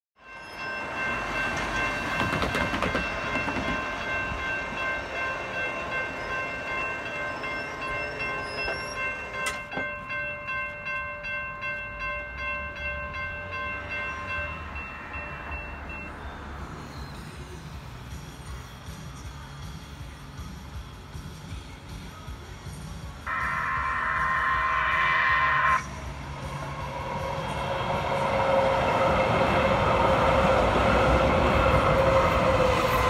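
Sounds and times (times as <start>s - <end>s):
crossing warning bells ringing: 0.2s - 19.6s, 23.3s - 33.0s.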